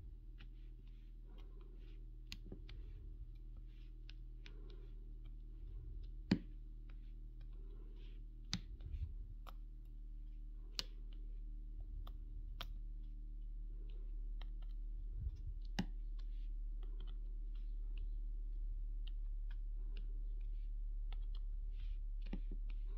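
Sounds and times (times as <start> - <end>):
low hum: 0.0 - 22.9.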